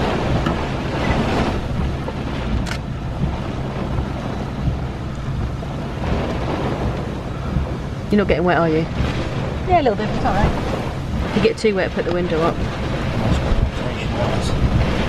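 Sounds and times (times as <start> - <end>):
rain: 0.0 - 15.0
wind buffeting microphone: 0.0 - 15.0.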